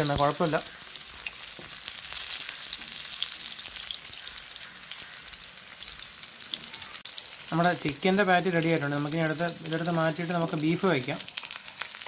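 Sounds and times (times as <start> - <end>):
patty sizzling in oil: 0.0 - 12.0.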